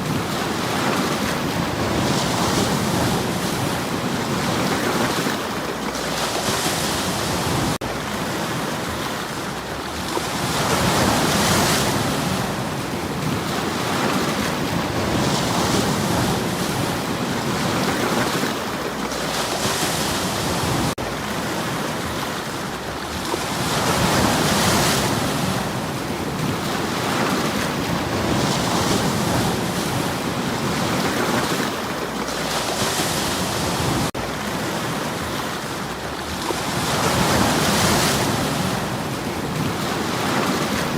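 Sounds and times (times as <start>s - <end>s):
surf washing against stones: 0.0s - 40.9s.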